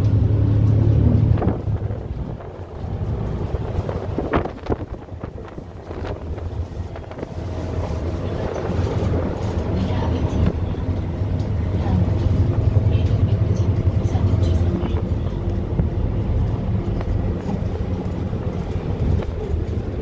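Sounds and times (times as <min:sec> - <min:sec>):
wind buffeting microphone: 0:00.1 - 0:20.0.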